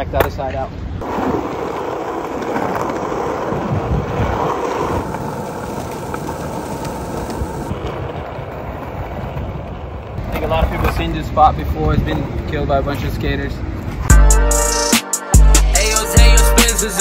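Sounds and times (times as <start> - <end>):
skateboard wheels rolling on concrete: 0.0 - 14.1.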